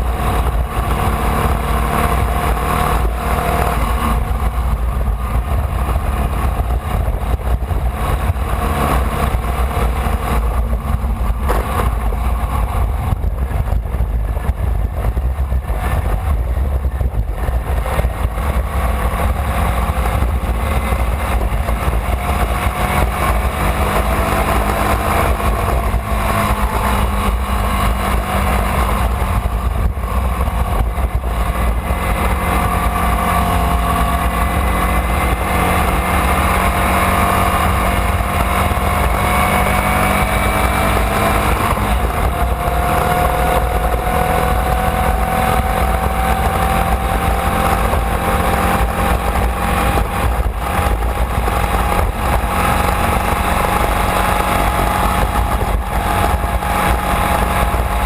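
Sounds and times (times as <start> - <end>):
race car engine running hard: 0.0 - 58.0
wind rumble on microphone: 0.0 - 58.0.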